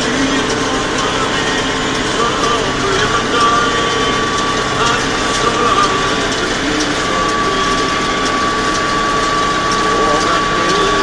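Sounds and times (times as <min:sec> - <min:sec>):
baler mechanical clatter: 0:00.0 - 0:11.0
continuous mechanical whine: 0:00.0 - 0:11.0
tractor engine running: 0:00.0 - 0:11.0.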